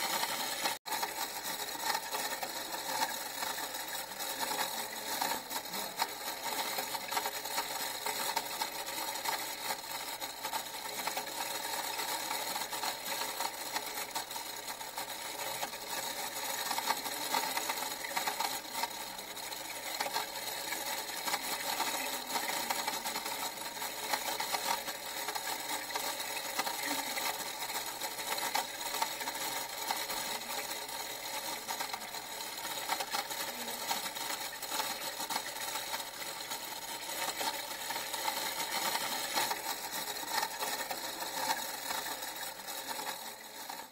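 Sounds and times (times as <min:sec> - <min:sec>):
small machine clattering: 0:00.0 - 0:43.9.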